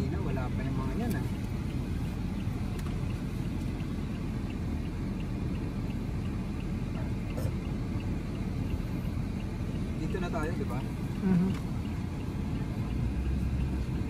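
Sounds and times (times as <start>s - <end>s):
engine and road rumble: 0.0s - 14.0s
quick regular ticking: 0.1s - 14.0s.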